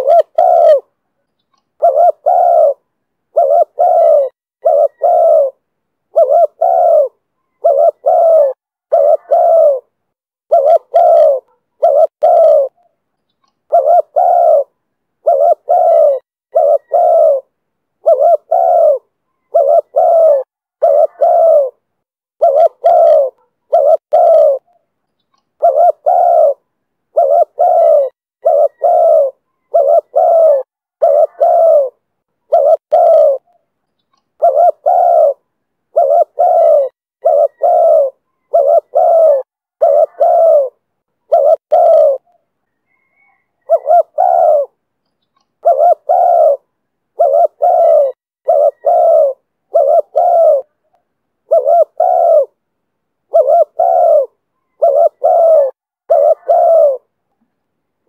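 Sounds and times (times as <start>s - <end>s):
dove cooing: 0.0s - 1.0s, 1.8s - 13.0s, 13.7s - 24.8s, 25.6s - 33.6s, 34.4s - 44.8s, 45.6s - 52.6s, 53.3s - 57.2s.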